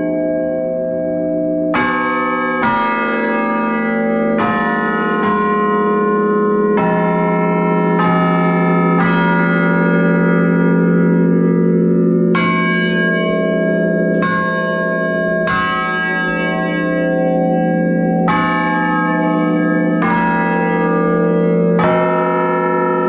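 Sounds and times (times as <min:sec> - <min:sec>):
tower bells playing a tune: 0:00.0 - 0:23.0.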